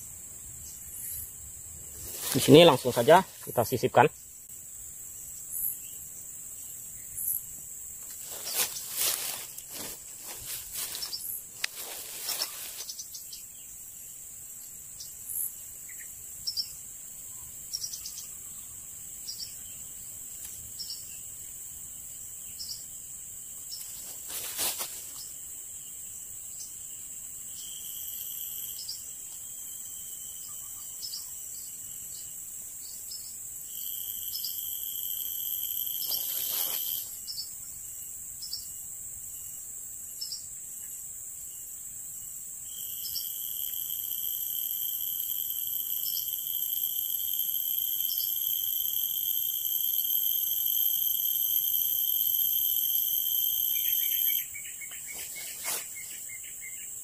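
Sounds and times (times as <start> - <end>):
high-pitched insect drone: 0.0 - 37.5, 42.6 - 57.0
insect chirps: 0.0 - 57.0.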